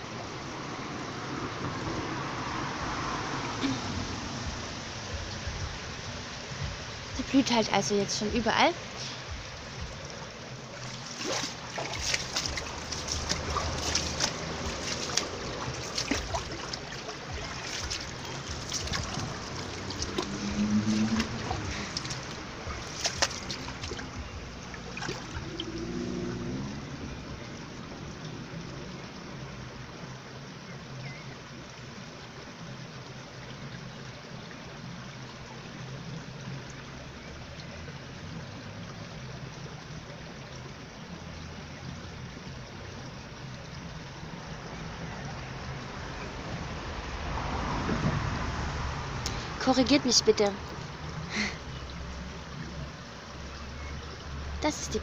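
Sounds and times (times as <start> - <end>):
stream trickling over stones: 0.0 - 55.0.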